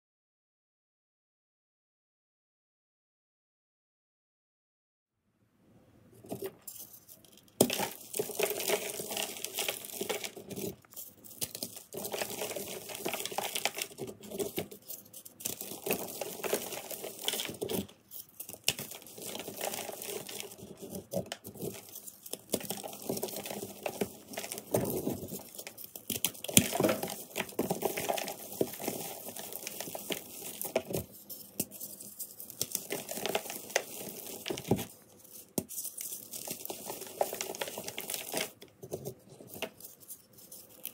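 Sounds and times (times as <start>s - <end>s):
chalk blocks crunching by hand: 7.6s - 40.9s.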